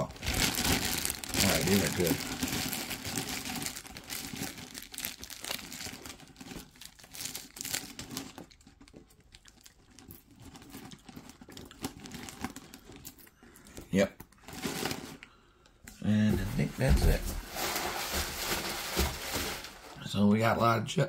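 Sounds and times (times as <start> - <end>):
plastic bag crinkling: 0.0 - 15.4, 16.4 - 20.1.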